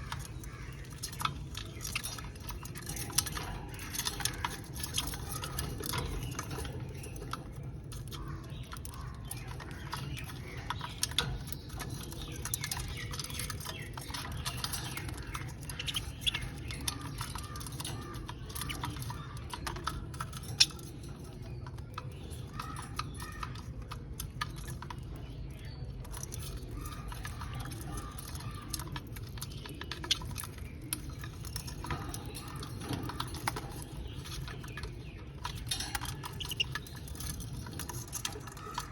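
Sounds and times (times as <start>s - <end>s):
birds cracking seeds: 0.0s - 38.9s
soft bird chirps: 0.0s - 38.9s.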